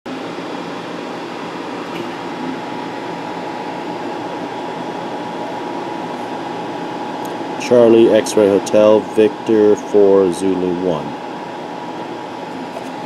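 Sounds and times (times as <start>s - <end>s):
mechanical hum and hiss: 0.1s - 13.0s.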